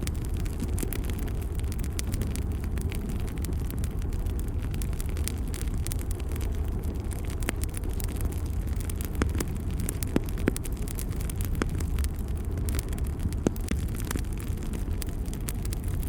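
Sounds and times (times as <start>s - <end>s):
fire rumbling: 0.0s - 16.0s
wood crackling and popping: 0.0s - 16.0s.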